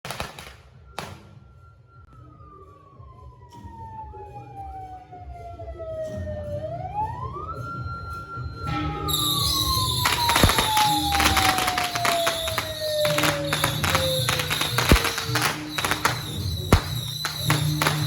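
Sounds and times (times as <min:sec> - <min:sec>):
siren wailing: 0:01.6 - 0:18.0.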